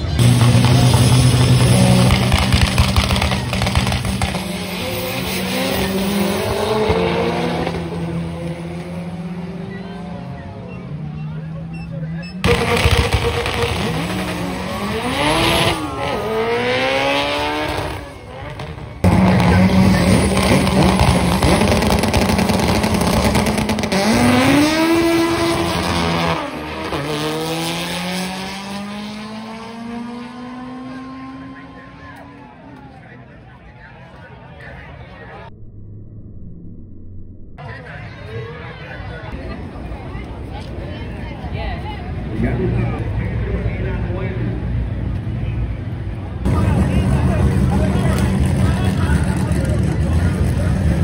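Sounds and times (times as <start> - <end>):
drag racing cars accelerating: 0.0 - 33.6, 41.5 - 51.0.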